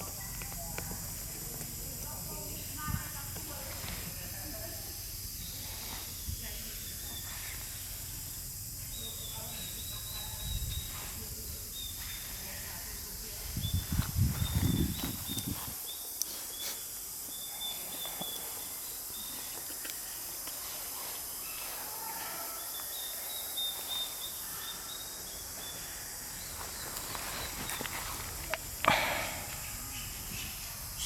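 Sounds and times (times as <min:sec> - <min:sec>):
insects hissing: 0:00.0 - 0:31.0.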